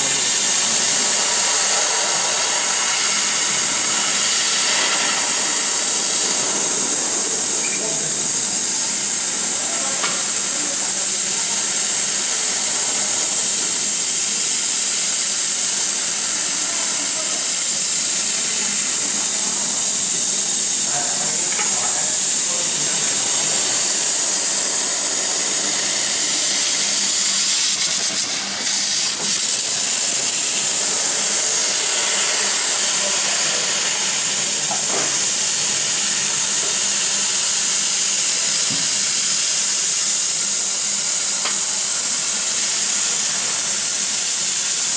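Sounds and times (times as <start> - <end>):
laser cutter jet hissing: 0.0 - 44.9.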